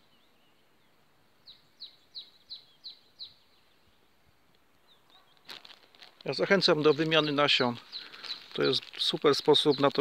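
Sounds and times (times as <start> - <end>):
songbird calling faintly: 0.0 - 10.0.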